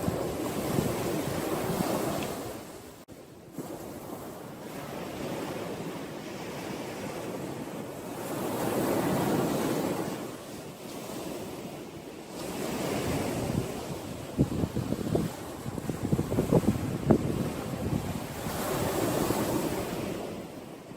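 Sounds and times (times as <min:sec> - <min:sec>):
ocean waves washing in: 0:00.0 - 0:20.9.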